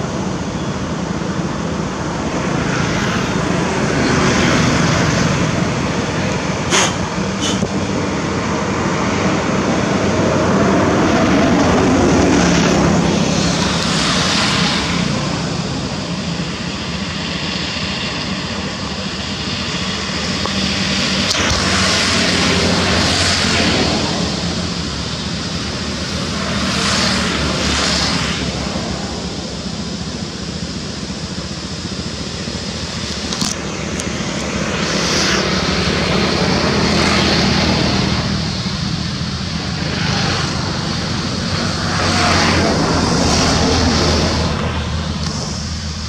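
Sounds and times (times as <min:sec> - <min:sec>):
engine drone: 0:00.0 - 0:46.0
rushing hiss: 0:02.8 - 0:46.0.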